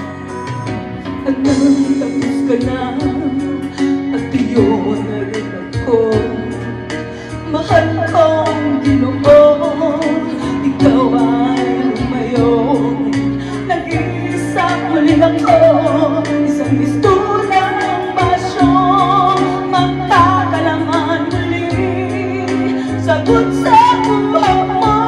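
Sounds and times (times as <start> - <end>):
instrumental accompaniment: 0.0 - 25.0
woman singing with vibrato: 1.1 - 25.0.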